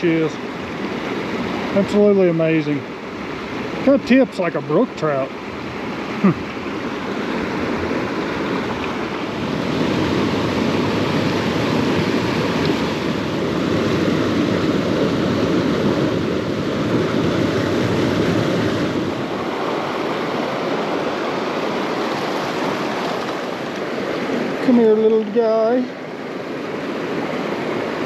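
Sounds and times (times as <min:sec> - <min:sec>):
mountain creek rushing: 0:00.0 - 0:28.0.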